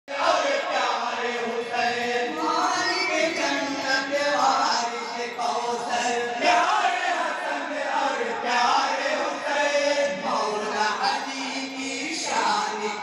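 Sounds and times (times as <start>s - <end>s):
men chanting together: 0.1s - 13.0s.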